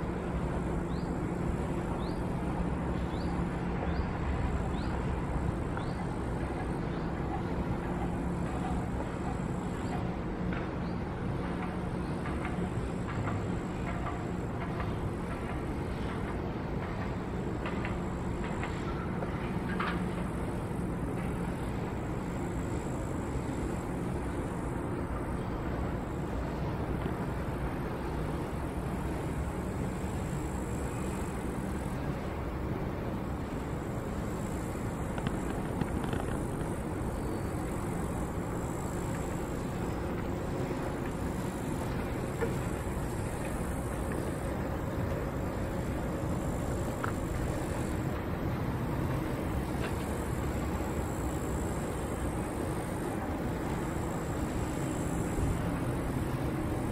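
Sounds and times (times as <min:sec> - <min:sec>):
faint hum: 0:00.0 - 0:56.9
chairlift ride noise: 0:11.2 - 0:56.9.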